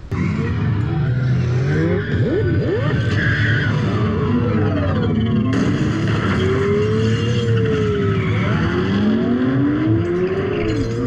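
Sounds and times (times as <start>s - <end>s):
noisy rush: 0.0s - 11.0s
vehicle engines revving: 0.0s - 11.0s.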